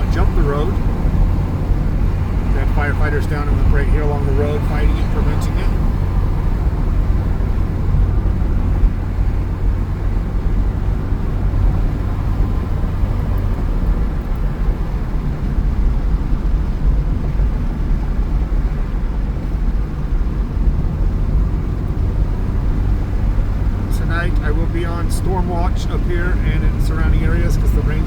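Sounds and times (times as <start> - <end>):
car road and engine noise: 0.0 - 28.0.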